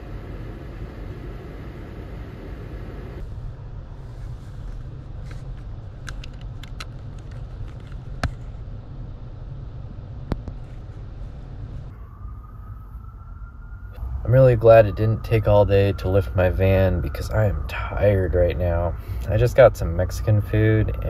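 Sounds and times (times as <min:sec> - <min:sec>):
low rumble of road vehicles: 0:00.0 - 0:21.0.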